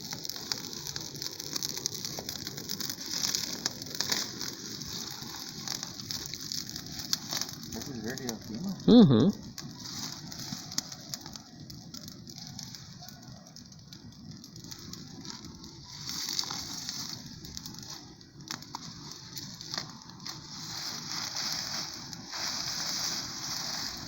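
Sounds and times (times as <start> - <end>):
bonfire crackling and popping: 0.0 - 24.0
steady fire hiss: 0.0 - 24.0.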